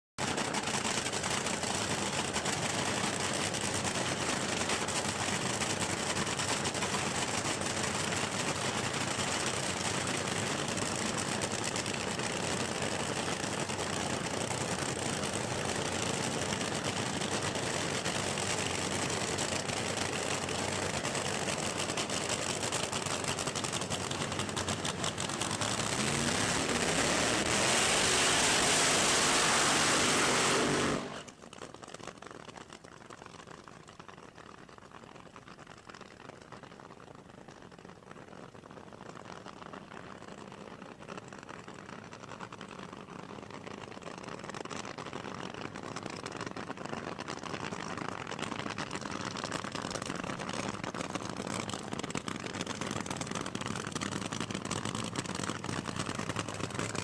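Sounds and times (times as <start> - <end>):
drag racing engines running: 0.2 - 32.2, 39.4 - 57.0.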